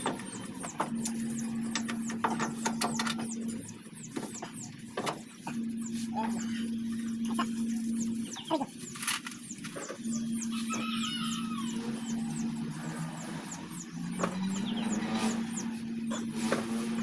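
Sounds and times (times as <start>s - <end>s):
high squeaky chirps: 0.0s - 16.3s
vehicle engine humming: 0.0s - 17.0s.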